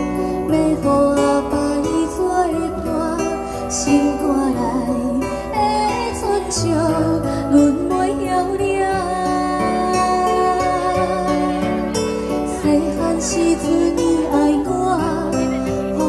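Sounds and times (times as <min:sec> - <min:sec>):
girl singing into a microphone: 0:00.0 - 0:16.0
guitar accompaniment: 0:00.0 - 0:16.0.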